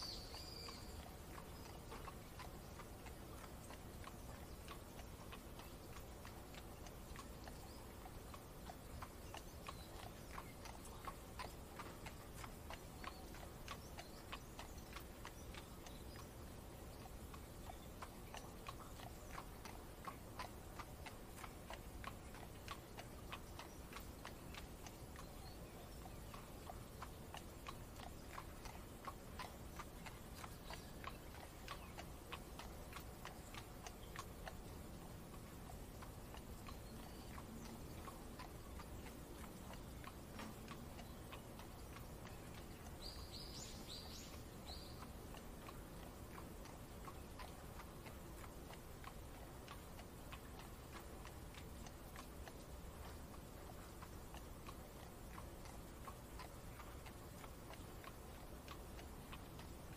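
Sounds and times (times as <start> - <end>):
horse hooves clip-clop: 0.0 - 59.9.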